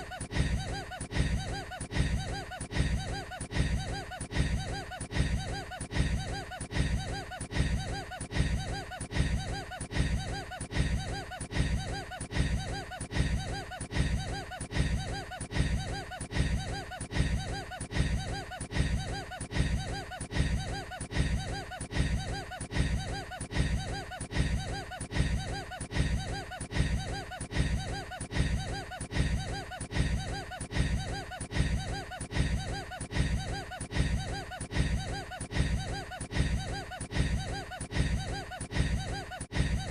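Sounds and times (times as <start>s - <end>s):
man laughing on a loop: 0.0s - 39.9s.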